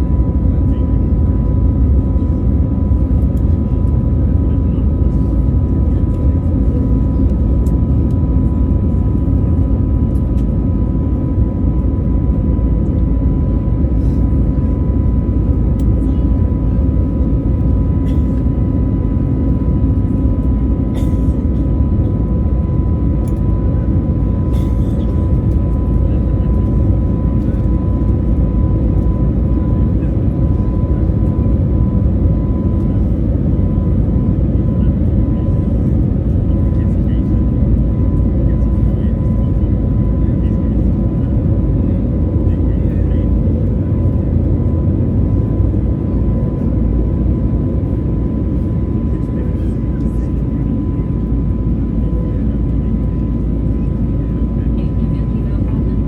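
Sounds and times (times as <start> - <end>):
jet engines rumbling: 0.0 - 55.9.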